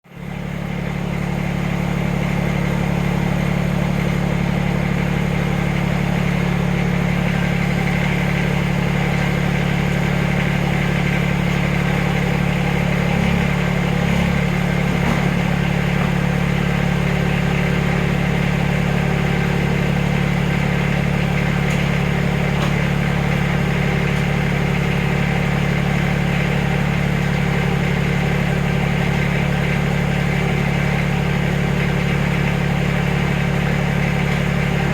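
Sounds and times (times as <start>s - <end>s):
backhoe engine idling: 0.1s - 34.9s.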